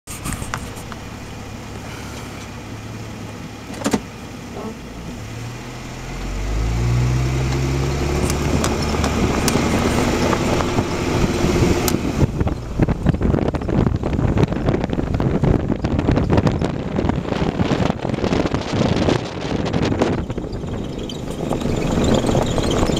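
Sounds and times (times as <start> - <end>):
car engine running: 0.1 - 22.9
road noise with knocks and rattles: 0.1 - 22.9.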